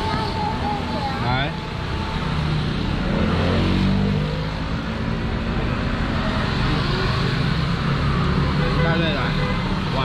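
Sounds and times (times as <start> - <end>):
traffic hum: 0.0 - 10.0.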